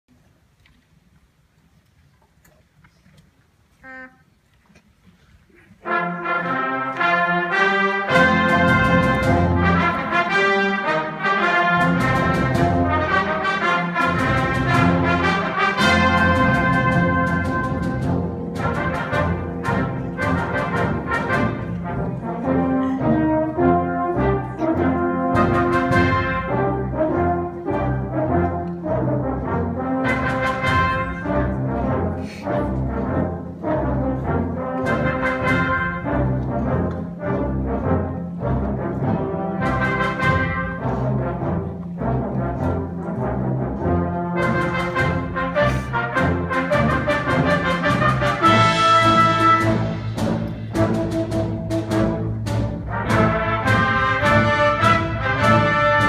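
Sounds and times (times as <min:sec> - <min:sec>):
brass ensemble playing a march: 0:05.8 - 0:56.0.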